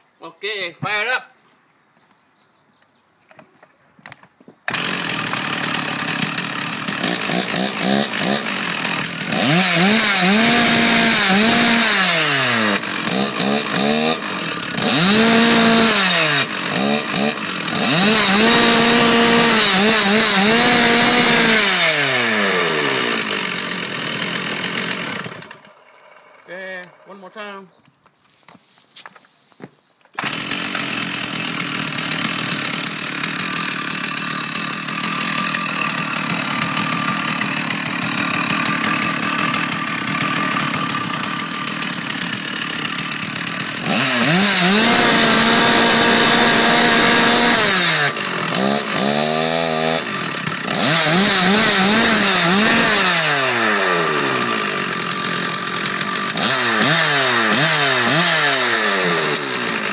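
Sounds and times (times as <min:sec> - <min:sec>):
chainsaw engine revving: 0:04.7 - 0:27.2, 0:30.2 - 0:59.9.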